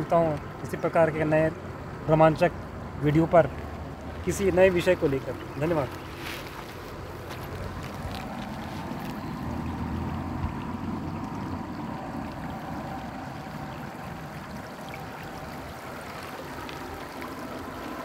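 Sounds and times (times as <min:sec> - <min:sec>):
river water over pebbles: 0:00.0 - 0:18.0.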